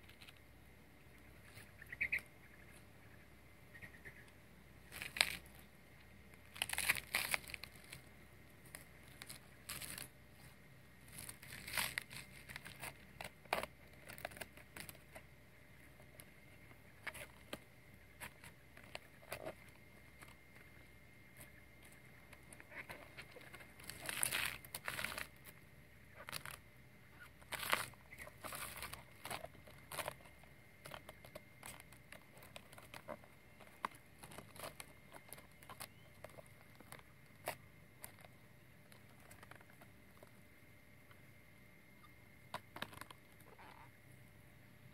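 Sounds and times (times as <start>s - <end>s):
plant sheath crackling: 4.8s - 40.5s, 41.9s - 44.0s.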